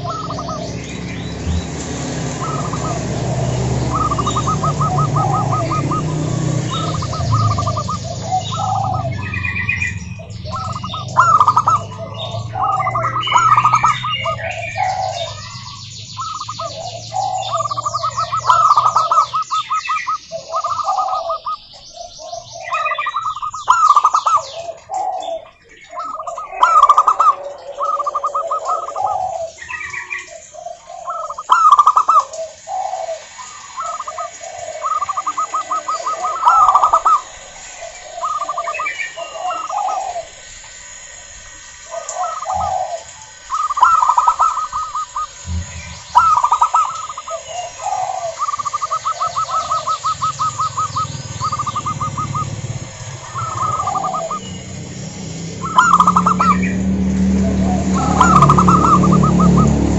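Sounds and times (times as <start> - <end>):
low hum: 0.0 - 31.3, 32.4 - 59.9
doves cooing trilled phrases: 0.0 - 59.9
higher-pitched chirping: 0.0 - 59.9.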